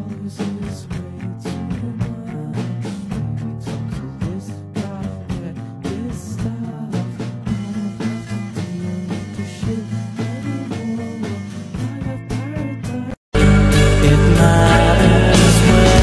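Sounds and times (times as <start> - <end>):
upbeat song with drum beat: 0.0 - 16.0.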